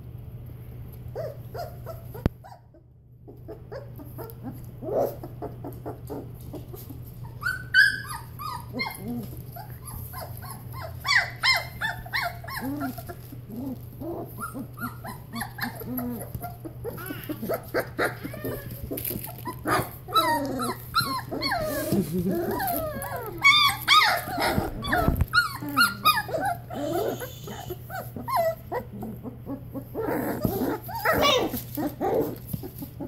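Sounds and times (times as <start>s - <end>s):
puppies whining and yipping: 1.1s - 33.0s.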